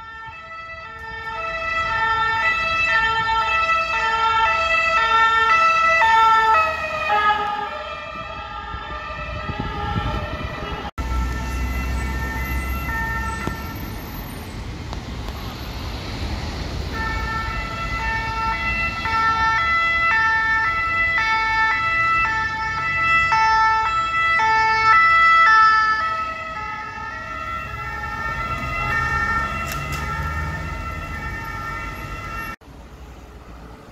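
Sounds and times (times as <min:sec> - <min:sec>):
two-tone emergency vehicle siren: 0:00.0 - 0:14.6, 0:16.9 - 0:32.6
city traffic: 0:00.0 - 0:33.9.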